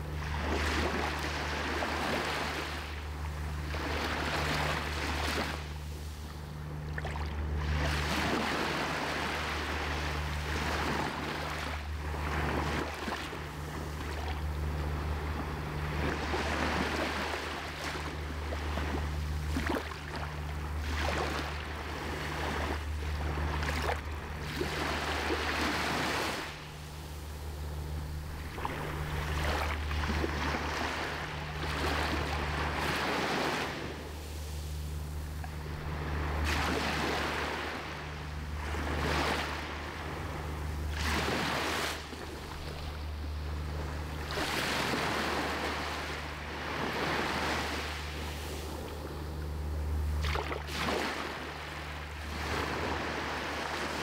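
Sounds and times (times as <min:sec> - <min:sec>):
small waves breaking on sand: 0:00.0 - 0:54.0
steady low hum: 0:00.0 - 0:54.0.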